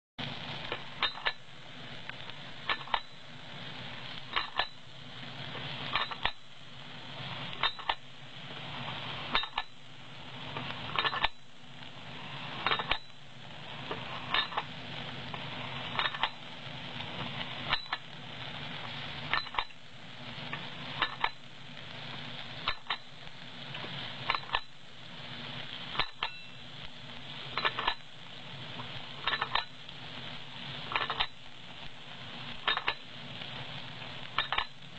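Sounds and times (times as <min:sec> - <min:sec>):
machine mechanical hum: 0:00.2 - 0:34.9.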